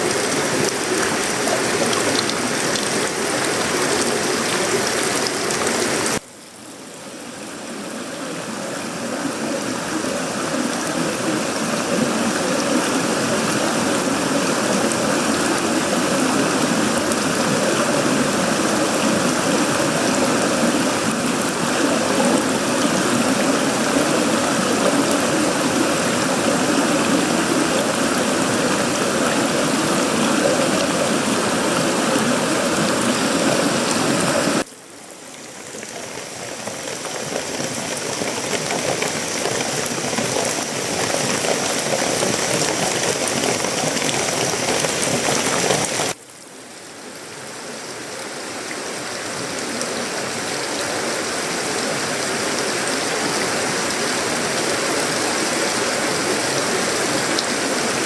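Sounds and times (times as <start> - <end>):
heavy rain on metal roofing: 0.0 - 6.5, 8.8 - 34.7, 35.5 - 46.2, 49.4 - 58.0.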